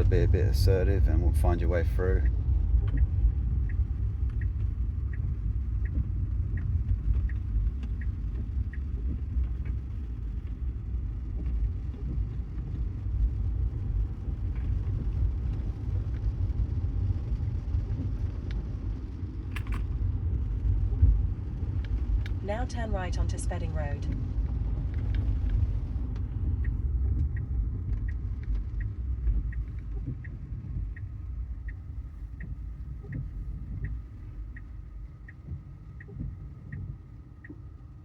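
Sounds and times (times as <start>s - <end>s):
tyre and road noise on wet street: 0.0s - 22.6s, 23.2s - 38.0s
turn signal ticking: 0.0s - 38.0s.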